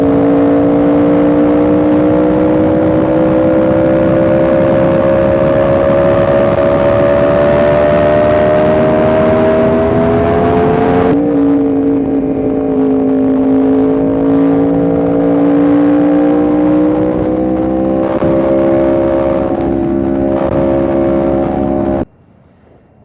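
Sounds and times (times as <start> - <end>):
motorcycle engine accelerating: 0.0 - 22.1.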